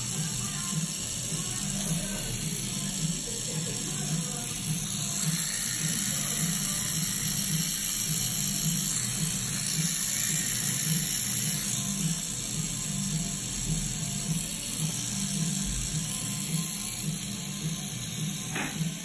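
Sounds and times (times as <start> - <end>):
tattoo machine buzzing: 0.0 - 19.0.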